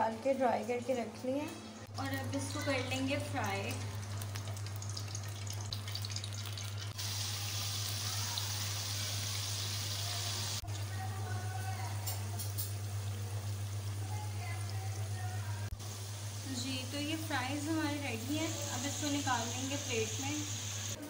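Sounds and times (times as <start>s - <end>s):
fries sizzling in hot oil: 1.9s - 21.0s.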